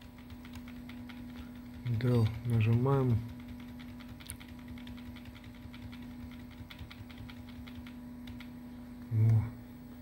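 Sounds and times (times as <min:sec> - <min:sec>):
keyboard key tapping: 0:00.0 - 0:08.6
steady low hum: 0:00.0 - 0:10.0.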